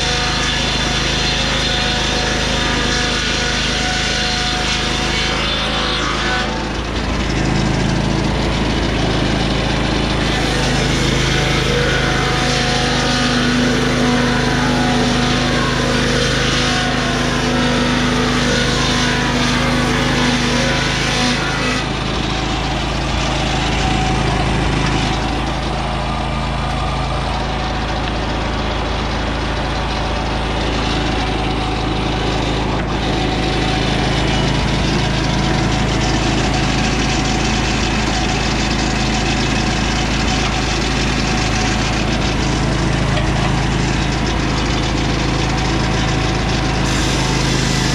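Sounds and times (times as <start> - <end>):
engine running: 0.0 - 47.9
saw blade whine: 0.0 - 47.9.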